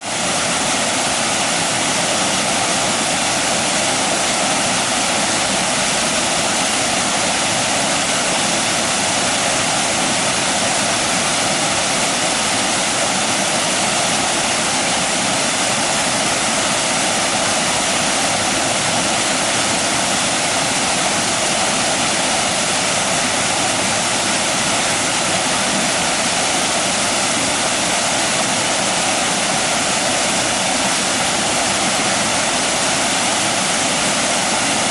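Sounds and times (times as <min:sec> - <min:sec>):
water rushing over weir: 0:00.0 - 0:34.9.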